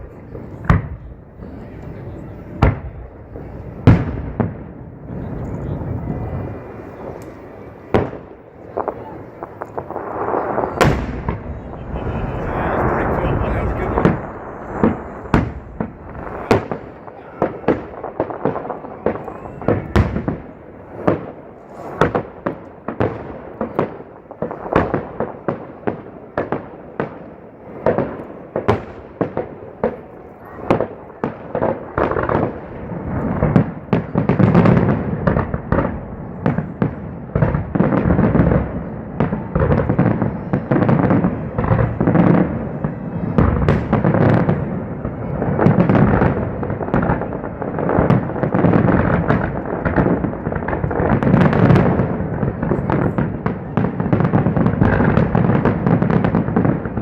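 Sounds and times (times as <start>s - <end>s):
fireworks bangs and booms: 0.0s - 57.0s.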